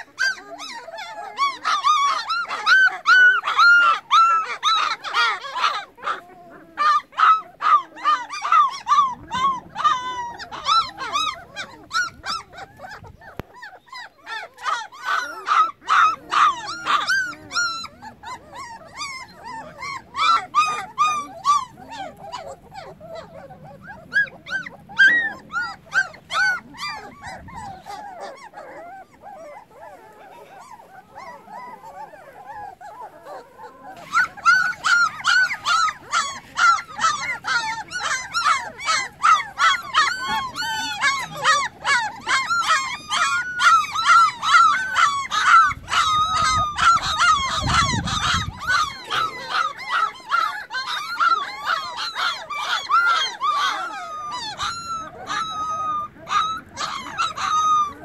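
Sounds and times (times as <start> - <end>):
puppies whining and yelping: 0.0 - 58.0.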